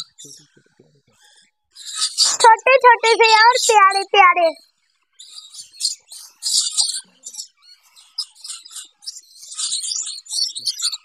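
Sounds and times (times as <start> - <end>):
parrot chicks chirping: 1.2 - 11.0.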